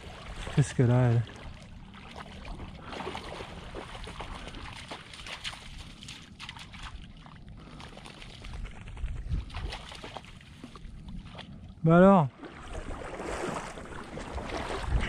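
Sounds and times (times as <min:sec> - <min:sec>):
water lapping and splashing: 0:00.0 - 0:15.0.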